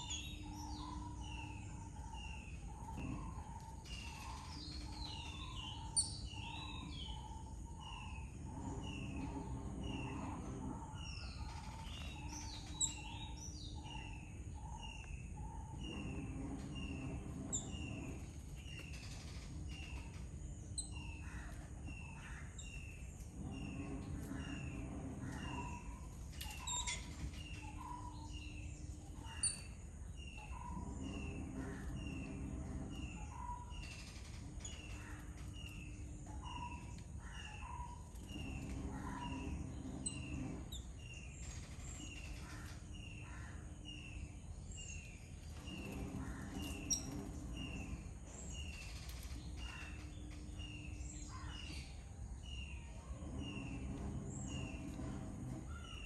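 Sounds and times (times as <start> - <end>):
birds chirping: 0.0 - 56.0
low steady rumble: 0.0 - 56.0.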